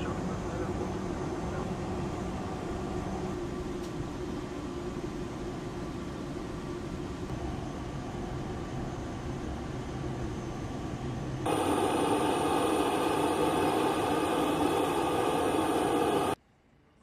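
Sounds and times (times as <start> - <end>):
aircraft in-flight rumble: 0.0 - 16.4
turboprop engines with high whine: 0.0 - 17.0.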